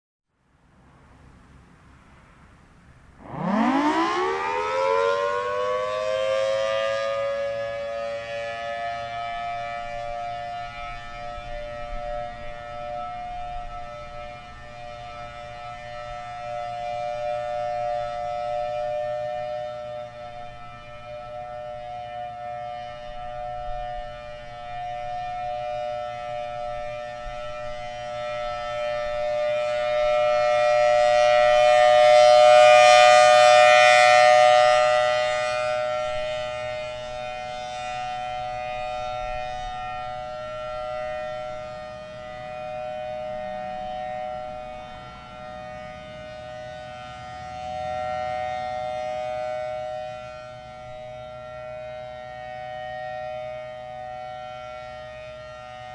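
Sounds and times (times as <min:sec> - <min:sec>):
two-note warning siren: 0:03.1 - 0:55.9.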